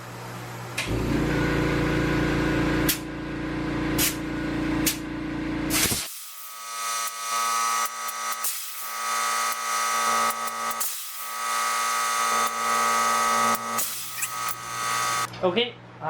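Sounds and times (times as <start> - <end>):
tire inflator compressor humming: 0.8 - 15.3.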